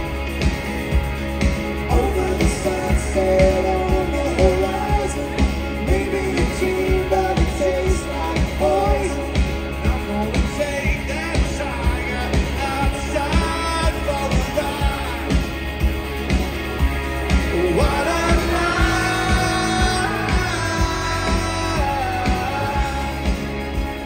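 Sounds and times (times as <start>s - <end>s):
electric guitars: 0.0s - 24.0s
steady drum beat: 0.0s - 24.0s
man singing lead: 1.7s - 16.0s, 17.2s - 24.0s.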